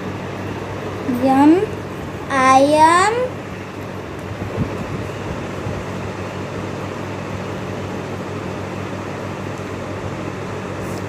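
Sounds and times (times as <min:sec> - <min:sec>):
constant hiss: 0:00.0 - 0:11.0
low machine hum: 0:00.0 - 0:11.0.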